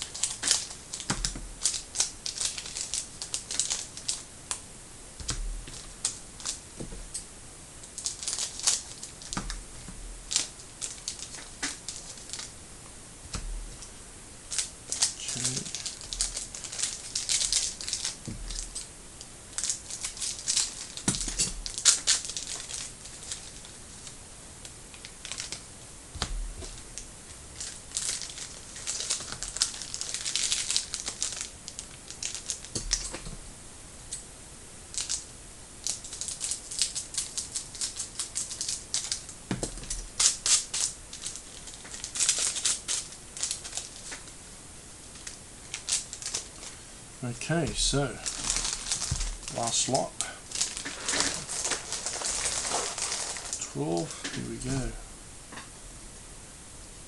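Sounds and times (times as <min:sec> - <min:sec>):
crinkling wrappers: 0:00.0 - 0:04.6, 0:05.2 - 0:12.6, 0:13.3 - 0:33.4, 0:34.9 - 0:44.4, 0:45.0 - 0:55.0.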